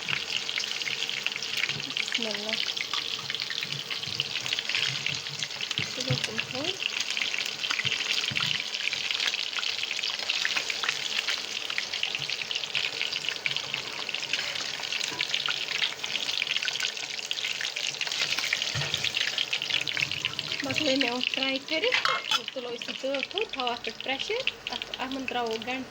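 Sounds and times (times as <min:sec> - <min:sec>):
meatballs sizzling in hot oil: 0:00.0 - 0:25.9.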